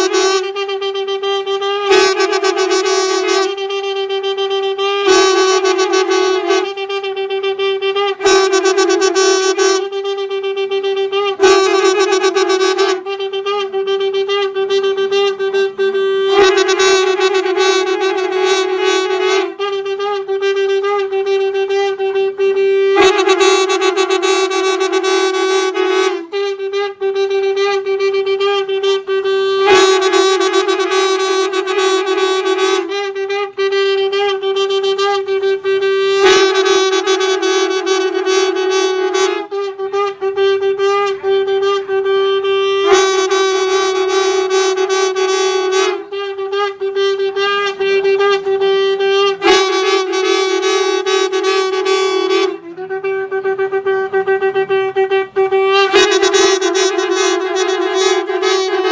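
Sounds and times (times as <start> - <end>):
conch shells blowing: 0.0 - 58.9.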